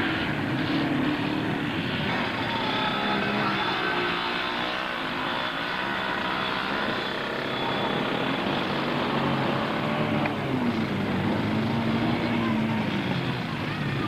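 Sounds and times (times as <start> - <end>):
quad engines running: 0.0 - 14.0.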